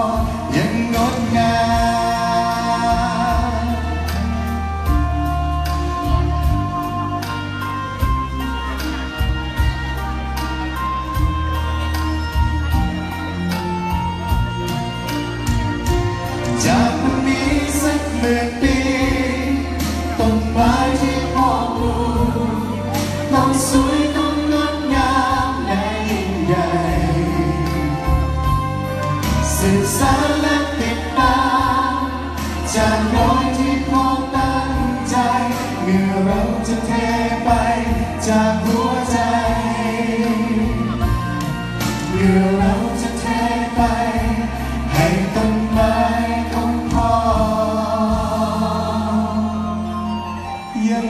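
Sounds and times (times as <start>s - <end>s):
group singing in harmony: 0.0s - 10.0s, 15.4s - 51.0s
steady low bass: 0.0s - 51.0s.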